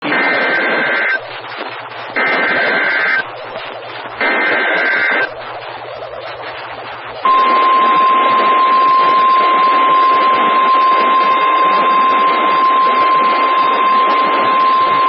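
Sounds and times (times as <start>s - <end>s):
buzzy two-tone digital bursts: 0.0s - 6.2s, 7.2s - 15.0s
radio hiss: 0.0s - 15.0s.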